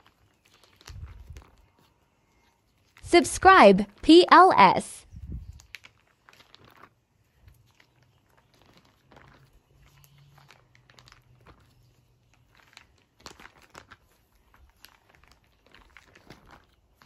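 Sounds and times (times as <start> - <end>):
plastic pages crinkling: 0.0 - 3.1, 5.5 - 17.0.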